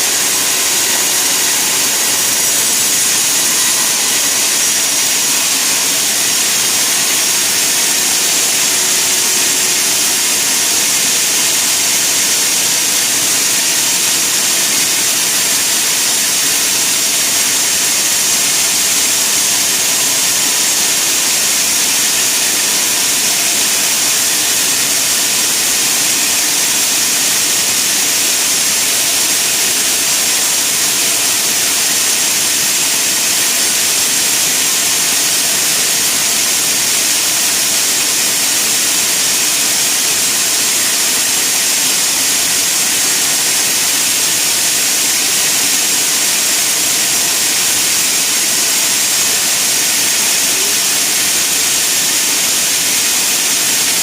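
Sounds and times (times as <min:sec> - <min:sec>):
sawmill saw hissing: 0:00.0 - 0:54.0.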